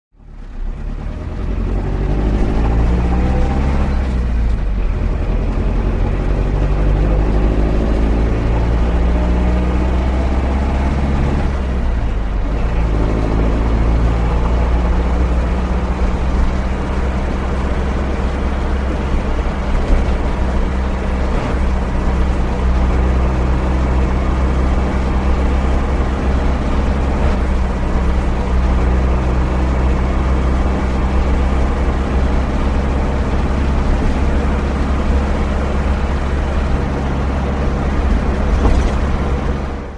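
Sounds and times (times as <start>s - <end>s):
van engine accelerating: 0.2s - 39.9s.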